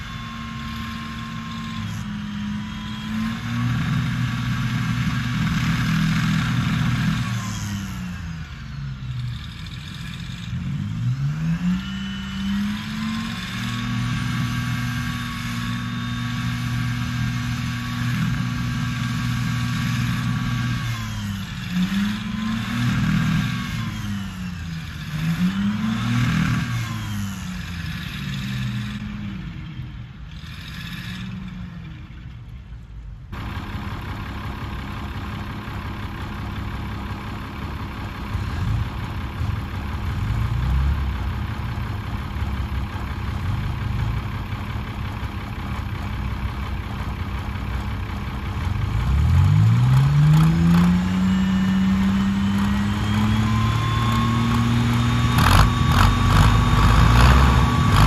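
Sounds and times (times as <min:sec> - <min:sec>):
heavy vehicle engines revving: 0:00.0 - 0:58.0
clatter: 0:09.0 - 0:11.9, 0:12.6 - 0:58.0.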